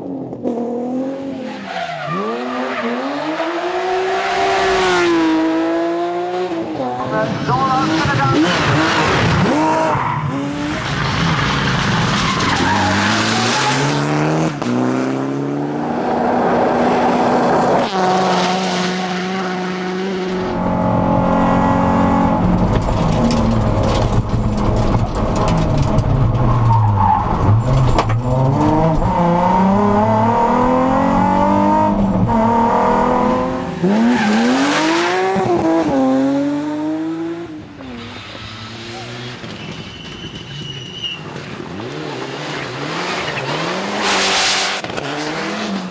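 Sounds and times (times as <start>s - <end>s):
rally car engine revving: 0.0s - 45.9s
tyre and road noise: 0.0s - 45.9s.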